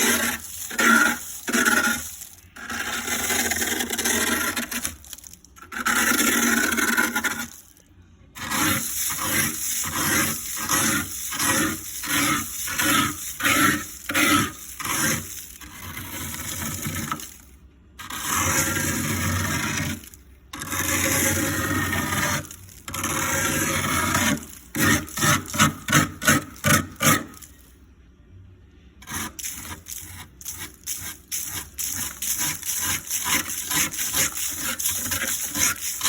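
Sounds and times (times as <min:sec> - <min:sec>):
ice being scraped: 0:00.0 - 0:07.7, 0:08.4 - 0:17.4, 0:18.0 - 0:27.6, 0:29.0 - 0:36.0.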